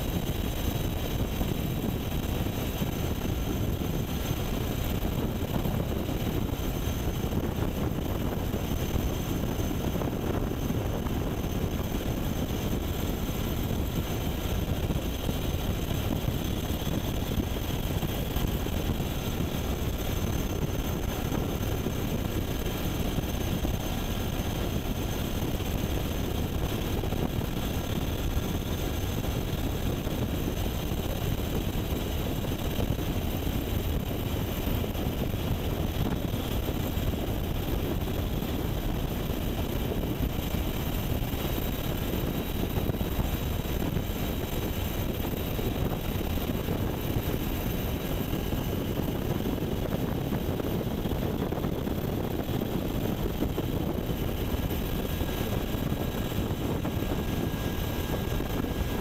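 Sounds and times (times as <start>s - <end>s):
helicopter rotors and turbines: 0.0s - 59.0s.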